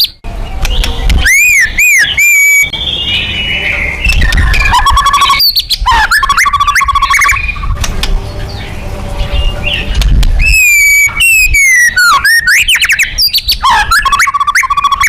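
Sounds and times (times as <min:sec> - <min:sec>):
songbird singing whistled phrases: 0:00.0 - 0:07.7, 0:09.3 - 0:15.0
low background rumble: 0:00.2 - 0:15.0.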